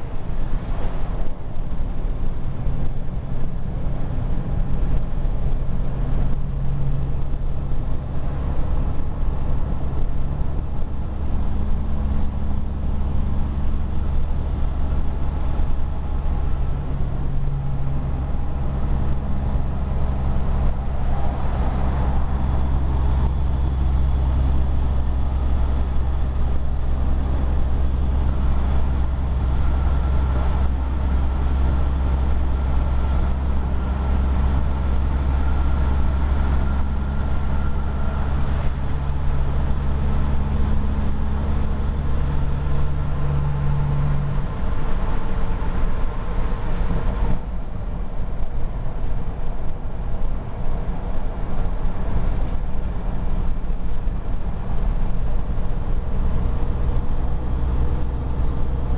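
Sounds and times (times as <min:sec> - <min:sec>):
truck diesel engine droning: 0:00.0 - 0:58.9.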